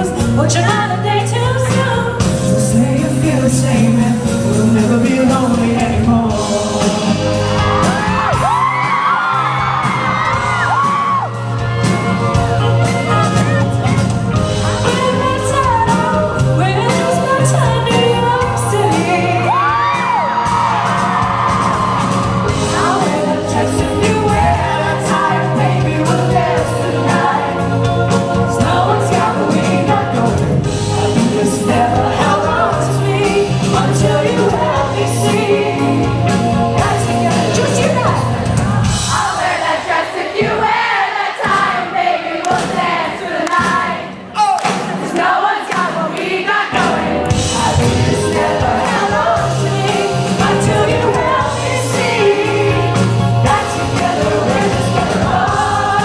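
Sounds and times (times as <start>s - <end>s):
person singing lead vocal: 0.0s - 9.2s, 14.6s - 39.8s, 43.5s - 56.0s
live pop band: 0.0s - 56.0s.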